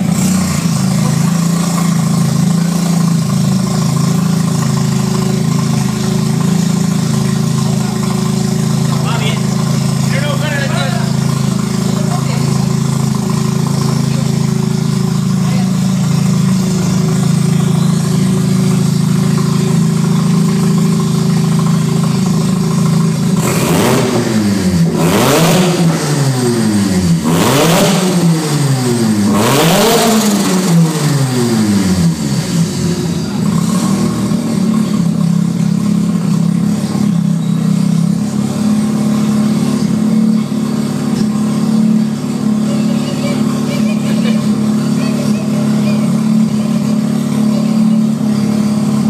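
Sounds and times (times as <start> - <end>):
rotary engine idling and revving: 0.0 - 49.0.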